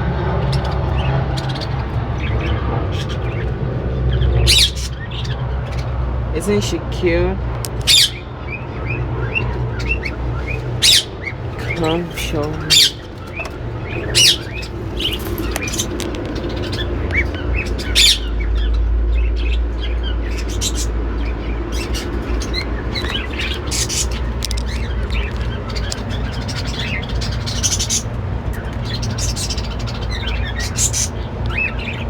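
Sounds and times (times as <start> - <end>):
pet birds chirping and squawking: 0.2 - 32.0.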